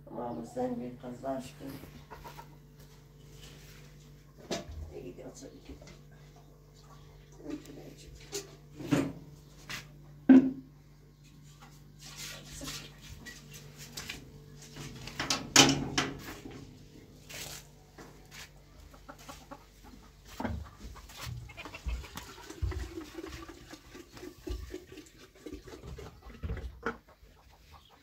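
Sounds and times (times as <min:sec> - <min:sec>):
chickens clucking: 0:00.2 - 0:10.2, 0:12.6 - 0:28.0.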